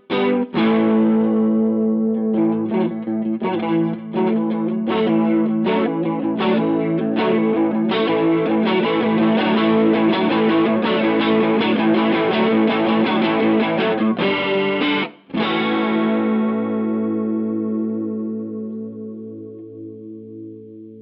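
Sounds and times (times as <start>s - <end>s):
electric guitar chords: 0.0s - 21.0s.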